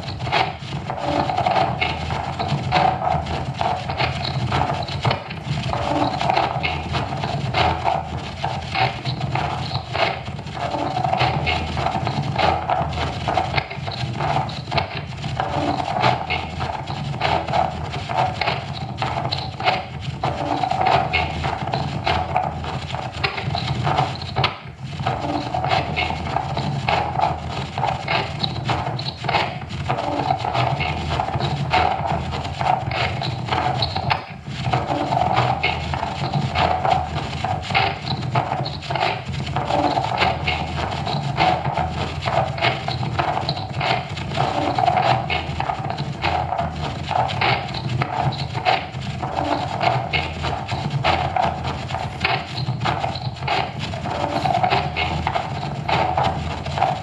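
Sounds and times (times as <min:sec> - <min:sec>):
scraping and rasping texture: 0:00.0 - 0:57.0.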